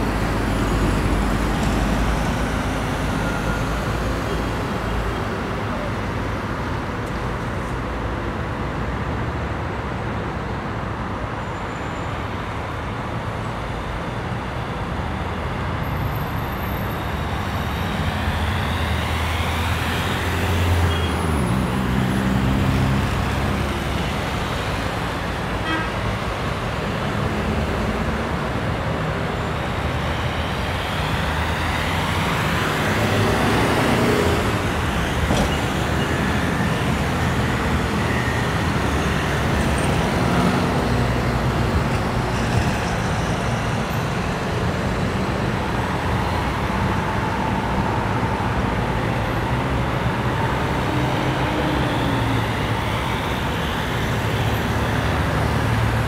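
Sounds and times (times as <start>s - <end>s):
hum of road traffic: 0.0s - 56.0s.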